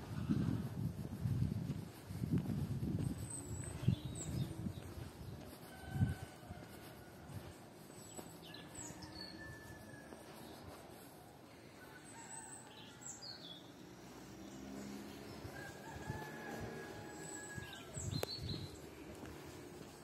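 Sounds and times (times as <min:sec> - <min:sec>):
rural background noise: 0:00.0 - 0:20.0
small birds chirping: 0:01.9 - 0:15.7, 0:17.2 - 0:20.0.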